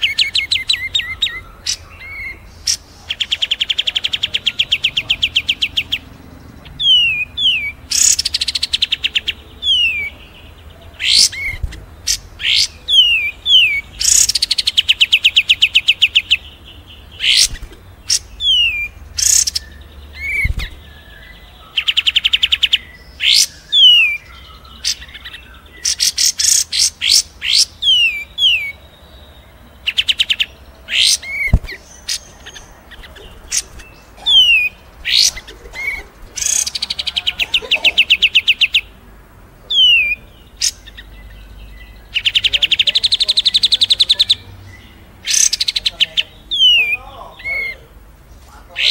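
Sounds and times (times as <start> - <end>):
sharp bird chips: 0.0 - 28.8, 29.8 - 39.0, 39.7 - 48.9
songbird trilling: 0.0 - 39.0, 39.6 - 48.9.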